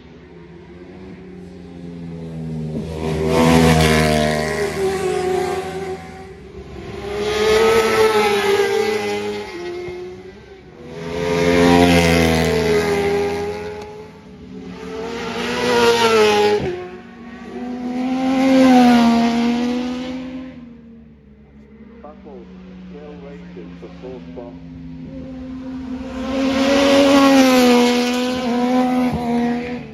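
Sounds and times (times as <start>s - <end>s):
racing motorcycles speeding past: 0.2s - 21.0s, 22.5s - 29.9s.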